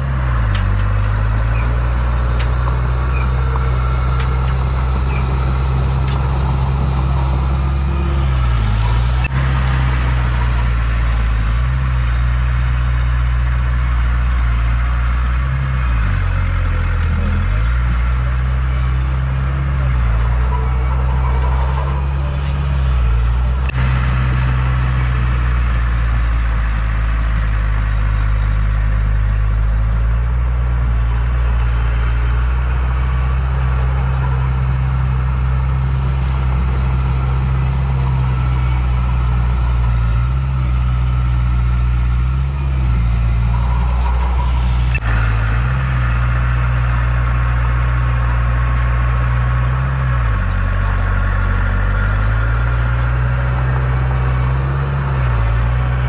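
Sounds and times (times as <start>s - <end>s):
heavy diesel engine idling: 0.0s - 56.0s.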